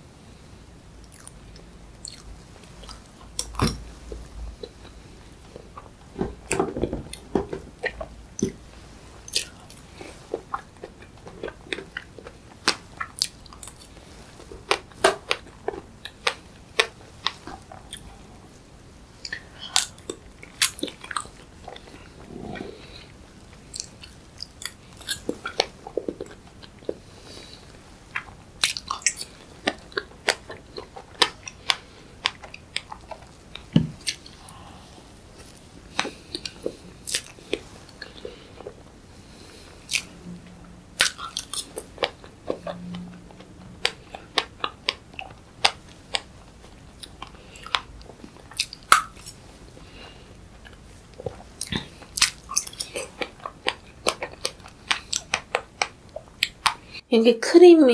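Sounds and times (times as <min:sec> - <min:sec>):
person chewing with clicks: 0:01.0 - 0:57.0.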